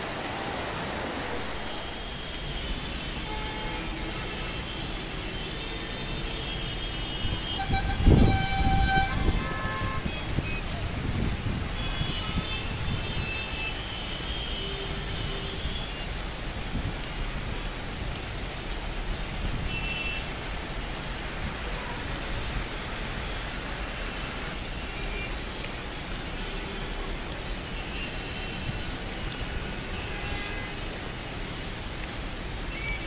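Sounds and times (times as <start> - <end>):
rain hissing: 0.0 - 33.0.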